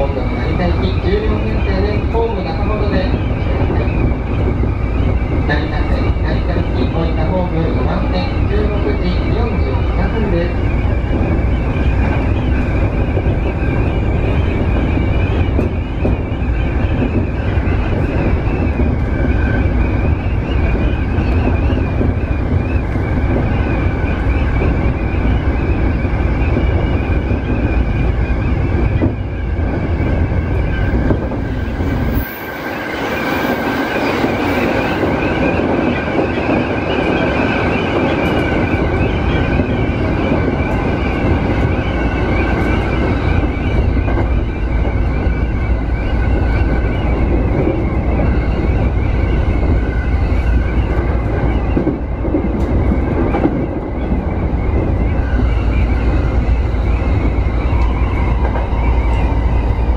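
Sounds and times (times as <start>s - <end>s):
steady high whine: 0.0s - 59.9s
train wheels rumbling on rail: 0.0s - 59.9s.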